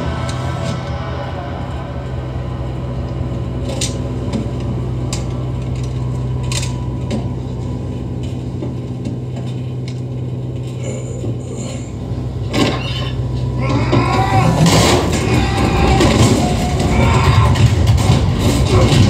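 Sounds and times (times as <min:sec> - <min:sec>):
propeller aircraft engines droning: 0:00.0 - 0:19.0.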